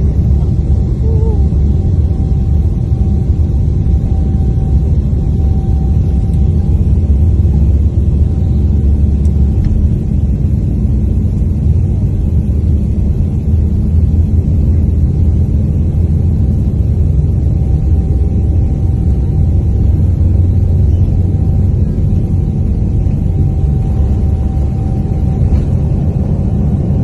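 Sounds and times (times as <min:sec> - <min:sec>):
faint steady whine: 0:00.0 - 0:27.0
jet engine cabin rumble: 0:00.0 - 0:27.0.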